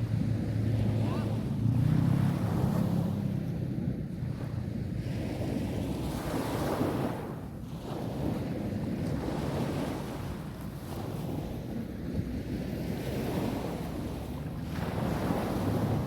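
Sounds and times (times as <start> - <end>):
wind buffeting microphone: 0.0 - 16.0
waves washing onto beach: 0.8 - 16.0.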